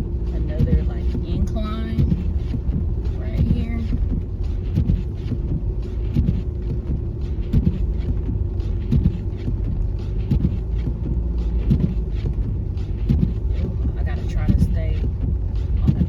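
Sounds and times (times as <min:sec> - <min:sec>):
car engine and tyres rumbling: 0:00.0 - 0:16.0
short thumps: 0:00.0 - 0:16.0.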